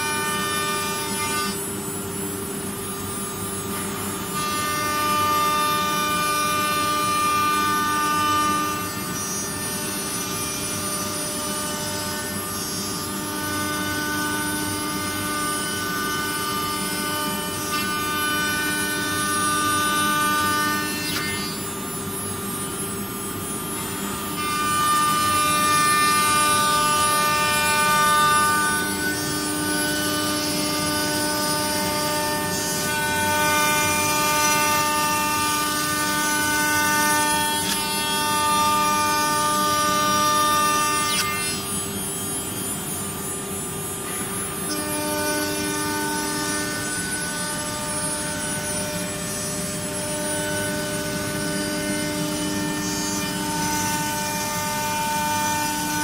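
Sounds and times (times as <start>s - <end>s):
cnc wood router spindle whine: 0.0s - 56.0s.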